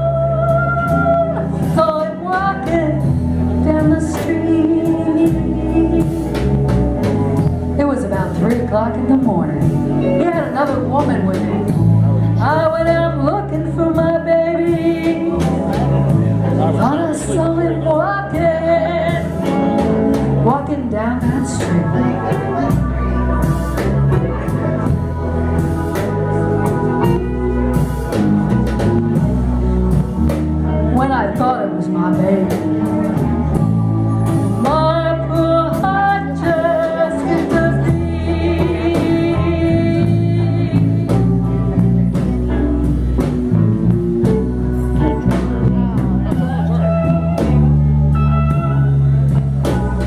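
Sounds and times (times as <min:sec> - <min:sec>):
bass notes: 0:00.0 - 0:50.0
drums: 0:00.0 - 0:50.0
electric guitar: 0:00.0 - 0:50.0
live blues band playing: 0:00.0 - 0:50.0.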